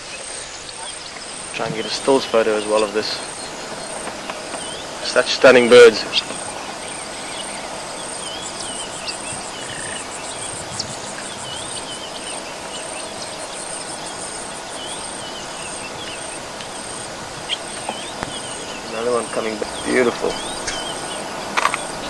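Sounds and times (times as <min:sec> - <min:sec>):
faint bird chirps: 0:00.0 - 0:22.0
insects trilling: 0:00.0 - 0:22.0.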